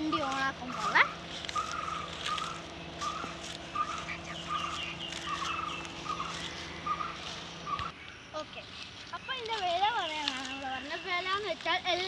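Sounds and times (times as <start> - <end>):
higher bird chirps: 0.0 - 11.5
birds calling: 0.0 - 12.0
steady low hum: 0.0 - 12.0.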